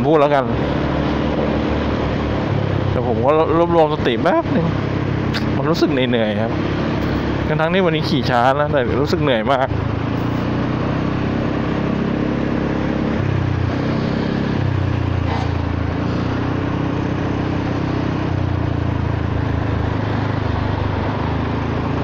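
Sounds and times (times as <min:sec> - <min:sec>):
scooter engine cruising: 0:00.0 - 0:22.0
wind and road noise: 0:00.0 - 0:22.0.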